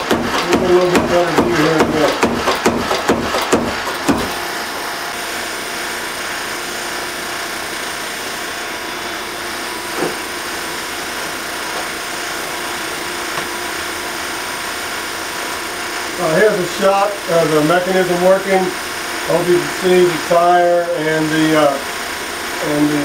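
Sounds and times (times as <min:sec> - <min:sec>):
power hammer mechanism humming: 0:00.0 - 0:23.0.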